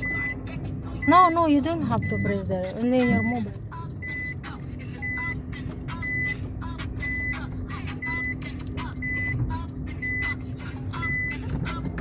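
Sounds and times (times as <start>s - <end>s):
car warning chime beeping: 0.0s - 12.0s
running car hum: 0.0s - 12.0s.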